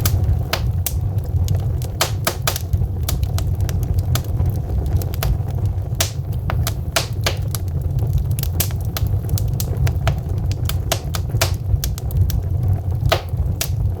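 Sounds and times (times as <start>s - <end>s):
logs crackling in a fireplace: 0.0s - 14.0s
low rumble of flames: 0.0s - 14.0s.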